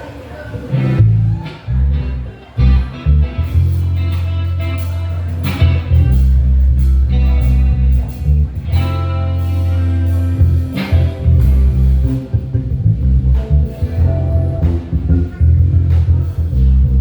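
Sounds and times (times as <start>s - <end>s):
drums: 0.0s - 17.0s
electric guitar: 0.0s - 17.0s
sustained bass guitar notes: 0.6s - 17.0s.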